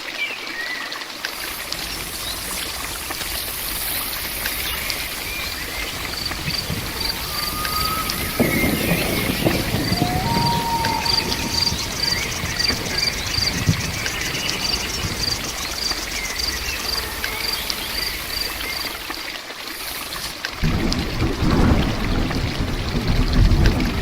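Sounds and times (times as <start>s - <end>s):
steady rain: 0.0s - 24.0s
insect chirping: 1.3s - 20.8s.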